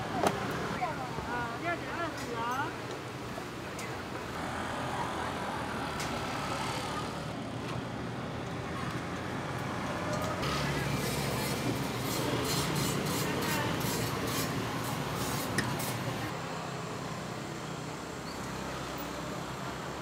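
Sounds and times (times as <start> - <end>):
street noise hum: 0.0 - 20.0.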